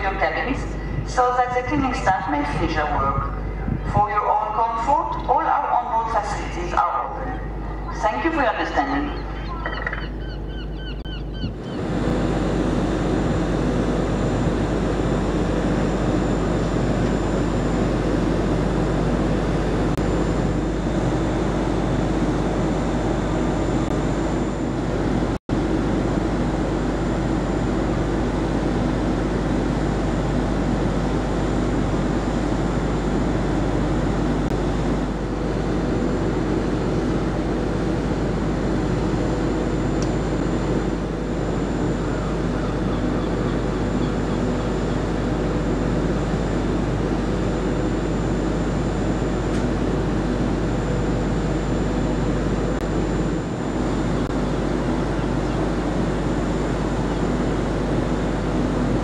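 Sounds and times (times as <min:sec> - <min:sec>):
ferry machinery drone: 0:00.0 - 0:59.0.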